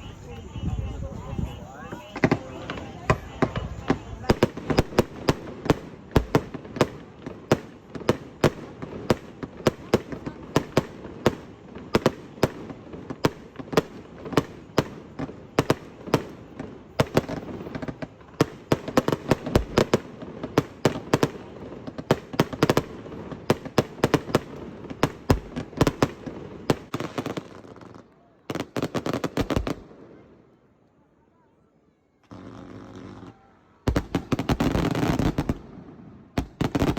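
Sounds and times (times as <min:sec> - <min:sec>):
fireworks bangs and crackles: 0:00.0 - 0:30.6, 0:32.2 - 0:36.9.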